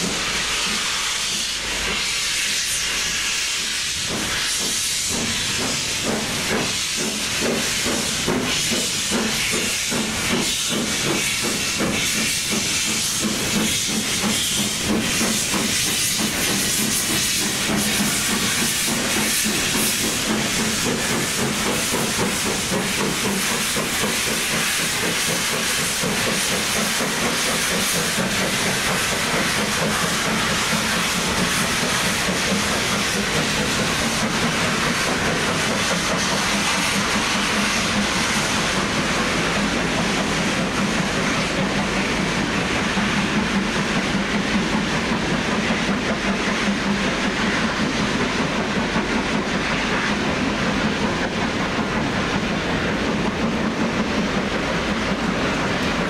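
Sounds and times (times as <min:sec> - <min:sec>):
steam hissing: 0:00.0 - 0:56.0
steam locomotive exhaust chuffs: 0:00.0 - 0:56.0.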